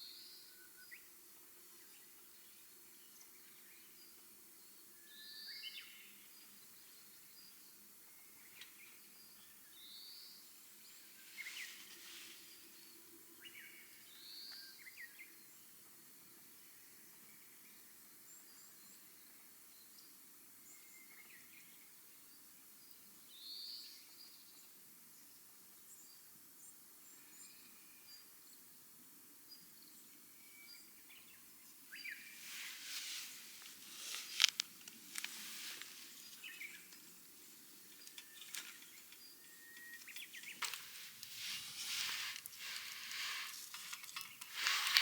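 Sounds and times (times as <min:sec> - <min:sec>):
faint high bird chirping: 0:00.0 - 0:28.8, 0:29.4 - 0:34.6, 0:35.2 - 0:45.0.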